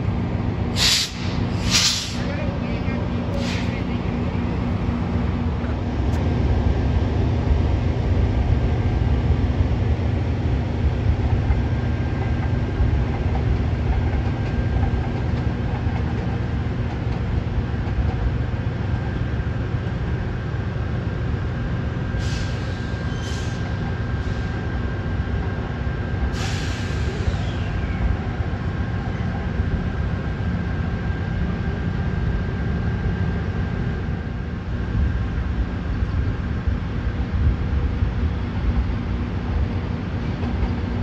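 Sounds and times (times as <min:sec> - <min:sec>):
diesel locomotive rumbling: 0:00.0 - 0:41.0
light-rail train passing: 0:00.0 - 0:41.0.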